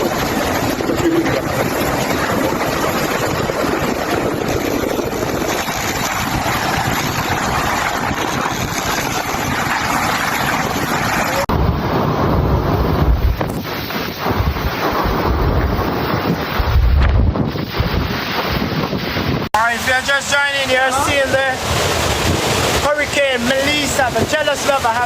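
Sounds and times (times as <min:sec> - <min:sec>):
wind buffeting microphone: 0:00.0 - 0:19.5, 0:21.1 - 0:22.8
loud rushing wind and water: 0:00.0 - 0:25.0.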